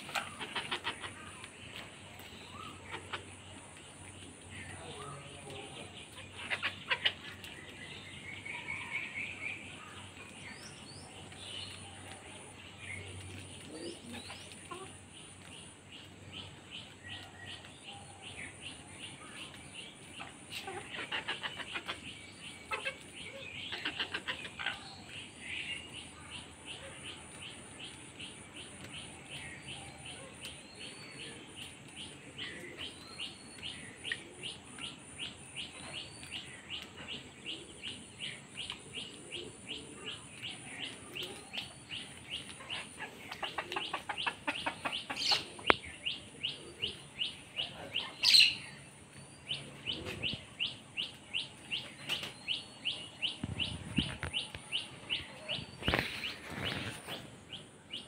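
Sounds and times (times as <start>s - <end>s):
other birds calling: 0.0s - 58.0s
small bird chirping: 0.0s - 58.0s.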